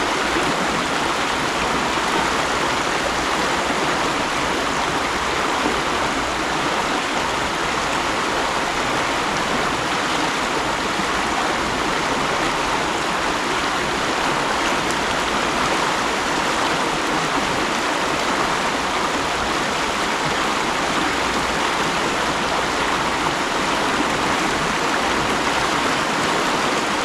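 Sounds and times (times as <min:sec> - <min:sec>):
stream running over rocks: 0:00.0 - 0:27.0.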